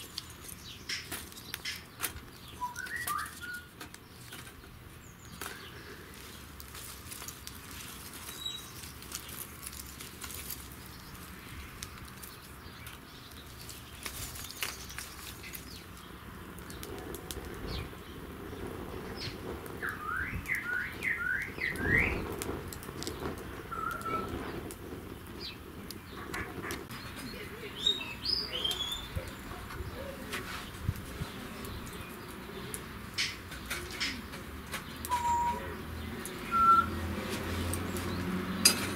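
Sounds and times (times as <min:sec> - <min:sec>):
bird chirping: 0:00.0 - 0:06.5, 0:07.7 - 0:16.9, 0:17.6 - 0:22.3, 0:23.0 - 0:24.6, 0:25.3 - 0:38.9
wood fire crackling: 0:00.0 - 0:38.9.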